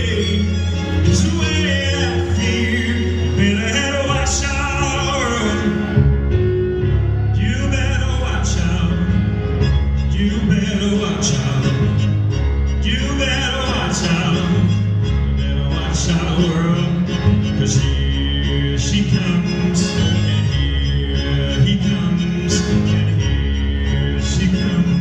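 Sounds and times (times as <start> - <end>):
bass notes: 0.0 - 25.0
man singing: 0.0 - 25.0
string accompaniment: 0.0 - 25.0.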